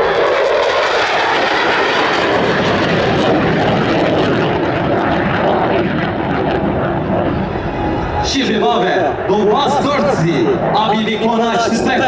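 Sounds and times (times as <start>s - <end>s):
fighter jet flying past: 0.0s - 12.0s.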